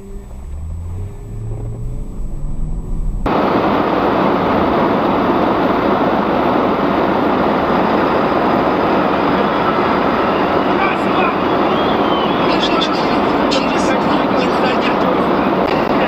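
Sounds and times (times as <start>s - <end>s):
road and wind rushing noise: 0.0s - 16.0s
vehicle engine revving: 0.0s - 16.0s.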